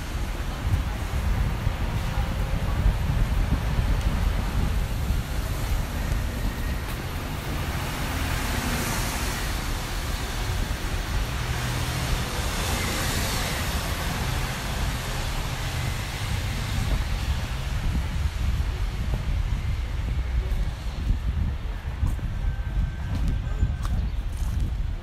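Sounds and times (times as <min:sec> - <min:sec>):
vehicles hissing on wet road: 0:00.0 - 0:22.1
low traffic rumble: 0:00.0 - 0:25.0.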